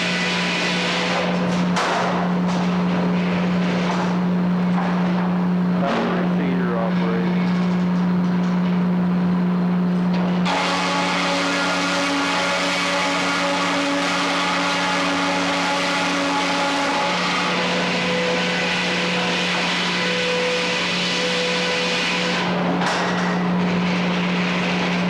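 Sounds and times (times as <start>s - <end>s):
sawmill machine drone: 0.0s - 8.1s, 9.2s - 25.0s.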